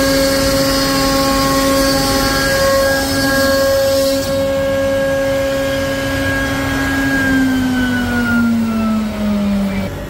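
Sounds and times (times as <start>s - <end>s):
spindle motor whining: 0.0s - 10.0s.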